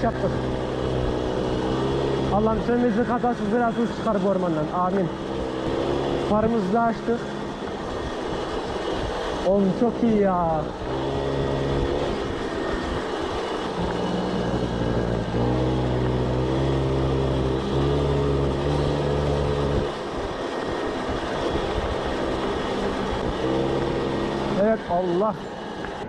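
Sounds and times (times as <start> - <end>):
moped engine running: 0.0 - 26.0.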